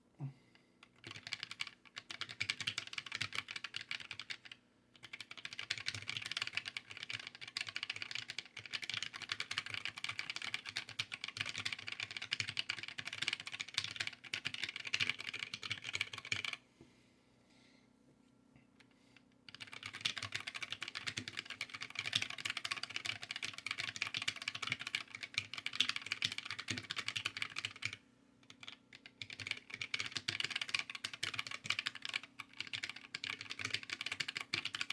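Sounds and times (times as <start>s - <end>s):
mechanical keyboard typing: 0.9s - 16.6s, 19.5s - 34.9s.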